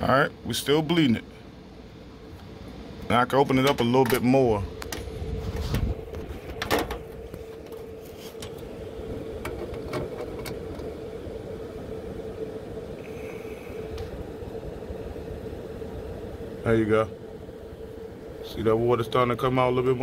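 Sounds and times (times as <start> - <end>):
blower motor humming: 0.0 - 20.0.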